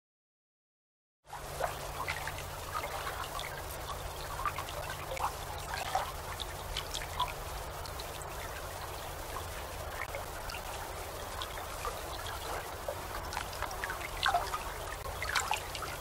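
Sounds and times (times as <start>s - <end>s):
gentle waves lapping: 1.3s - 16.0s
low steady hum: 1.3s - 16.0s.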